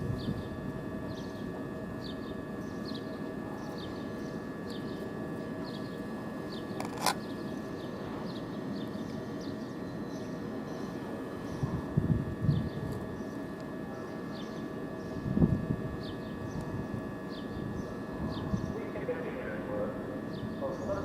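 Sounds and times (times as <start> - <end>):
electrical hum with tones: 0.0 - 21.0.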